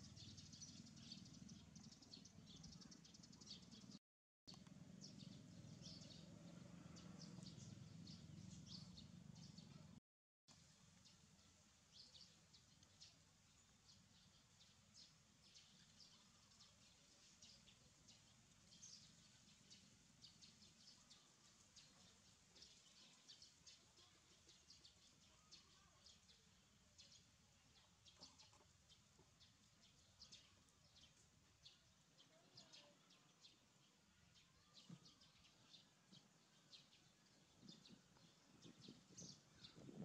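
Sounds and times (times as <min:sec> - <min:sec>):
faint small birds chirping: 0:00.0 - 0:40.0.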